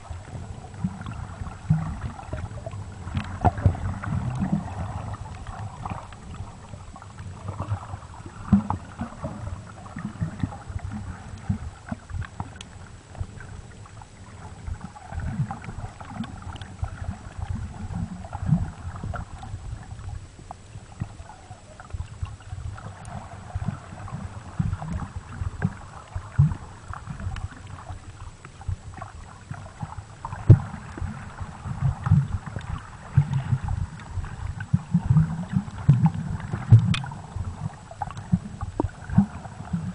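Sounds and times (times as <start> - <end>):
underwater rumbles and knocks: 0.0 - 39.9.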